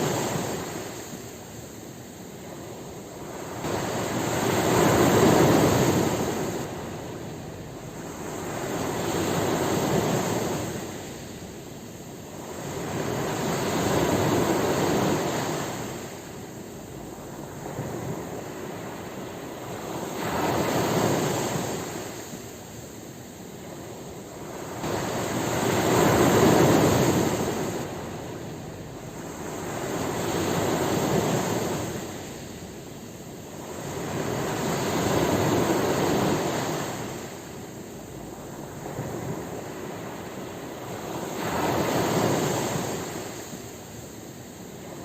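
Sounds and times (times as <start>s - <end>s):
ocean surf breaking: 0.0s - 45.0s.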